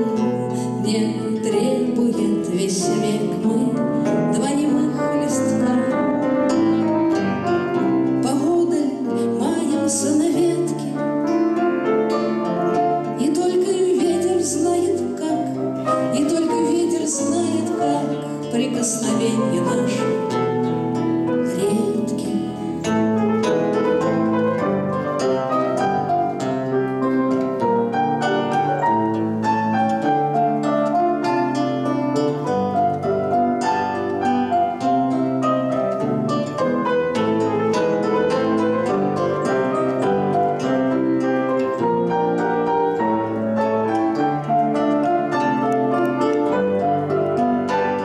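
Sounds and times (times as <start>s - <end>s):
piano chords: 0.0s - 48.0s
plucked string instrument: 0.0s - 48.0s.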